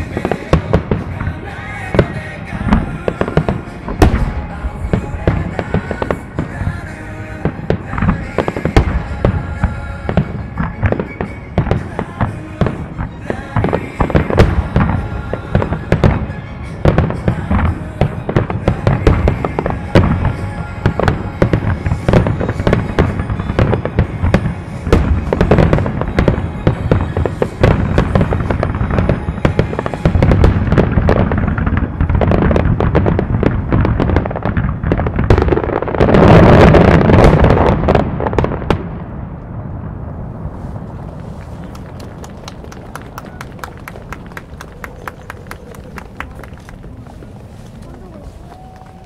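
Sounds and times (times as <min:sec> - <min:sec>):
music: 0:00.0 - 0:39.0, 0:41.5 - 0:47.8
fireworks bursts and crackling: 0:00.0 - 0:49.0.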